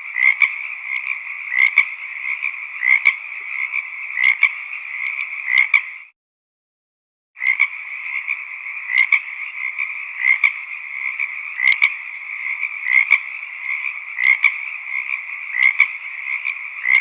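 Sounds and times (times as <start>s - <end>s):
frogs croaking: 0.0s - 6.1s, 7.4s - 17.0s.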